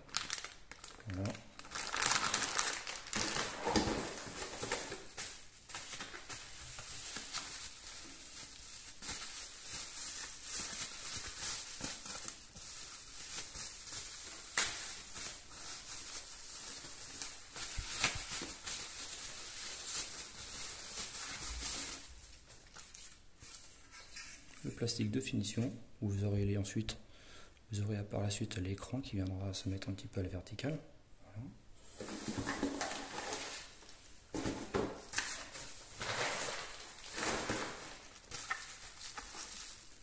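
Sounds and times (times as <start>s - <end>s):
plastic packaging crinkling: 0.0s - 24.4s, 32.0s - 40.0s.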